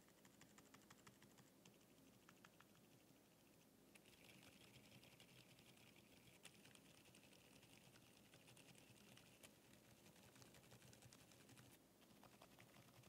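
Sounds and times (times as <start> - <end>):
soft keyboard typing: 0.0 - 3.1, 4.0 - 13.0.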